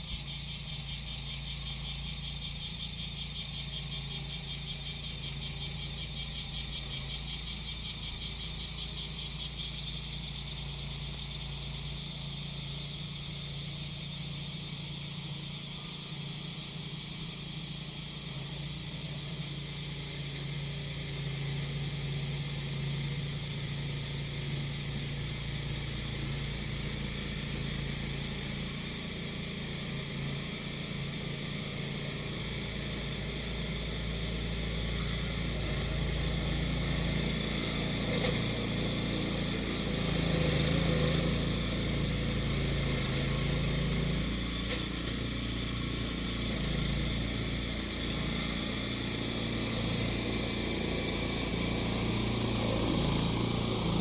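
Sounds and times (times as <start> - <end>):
cicadas buzzing: 0.0 - 54.0
grass cutter engine humming: 0.0 - 54.0.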